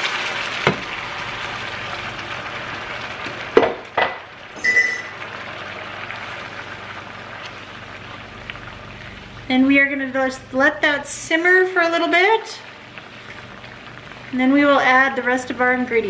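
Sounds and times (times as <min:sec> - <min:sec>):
broth sizzling in a frying pan: 0:00.0 - 0:16.0.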